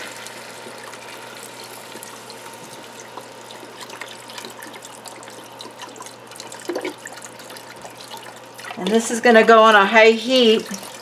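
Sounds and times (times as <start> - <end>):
broth pouring into a pot: 0.0 - 9.3.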